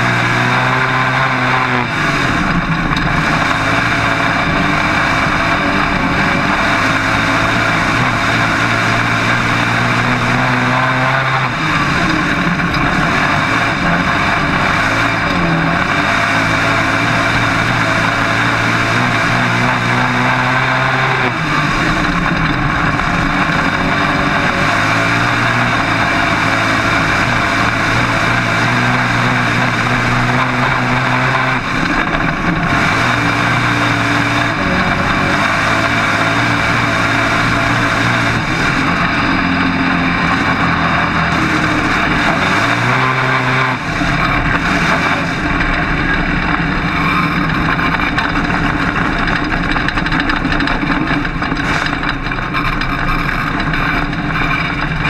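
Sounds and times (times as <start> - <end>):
race car engine: 0.0 - 55.0
wind and track noise: 0.0 - 55.0.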